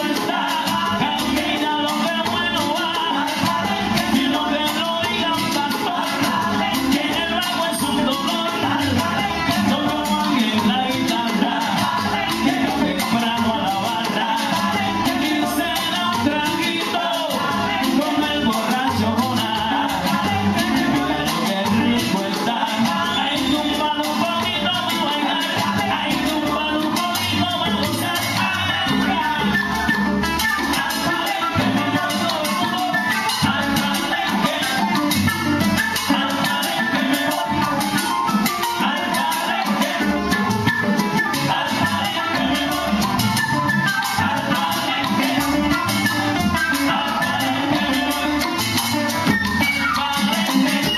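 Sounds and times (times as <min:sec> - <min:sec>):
live band playing son music: 0:00.0 - 0:50.9.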